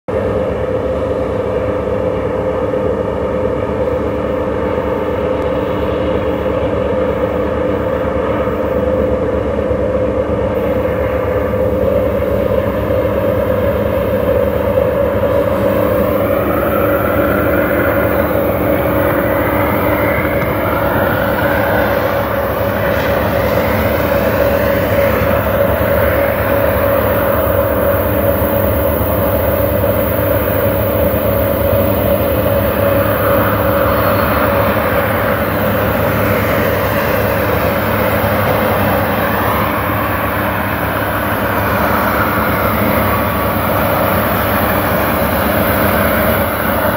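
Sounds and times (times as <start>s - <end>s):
distant locomotive engine drone: 0.0s - 46.9s
rising whine: 1.0s - 46.9s.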